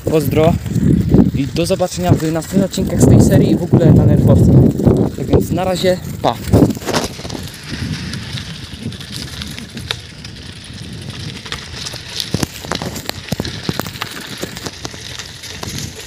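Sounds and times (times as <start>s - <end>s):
footsteps on dirt path: 0.0s - 16.0s.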